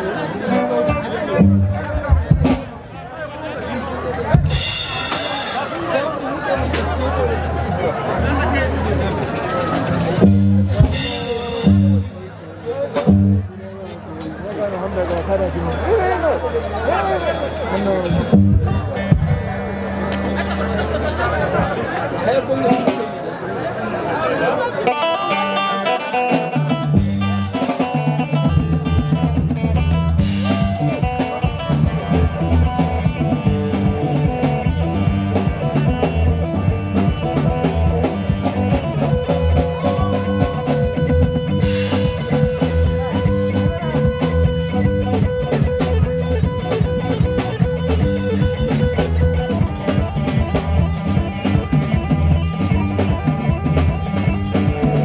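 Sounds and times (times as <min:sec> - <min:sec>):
electric guitar: 0:00.0 - 0:02.8, 0:03.8 - 0:22.1, 0:24.8 - 0:55.0
bass guitar: 0:00.0 - 0:22.1, 0:24.8 - 0:55.0
drum kit: 0:00.5 - 0:03.0, 0:04.1 - 0:07.1, 0:08.7 - 0:20.7, 0:25.6 - 0:55.0.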